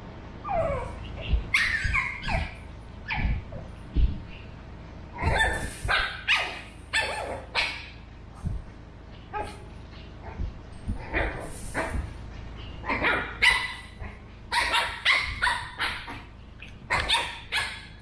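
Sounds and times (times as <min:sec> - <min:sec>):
dogs barking and yipping: 0:00.4 - 0:03.7, 0:05.2 - 0:08.2, 0:09.2 - 0:18.0.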